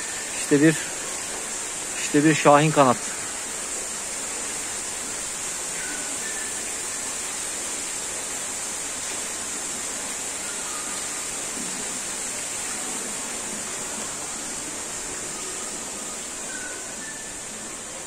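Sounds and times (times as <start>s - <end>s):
ventilation fans rushing: 0.0s - 18.0s.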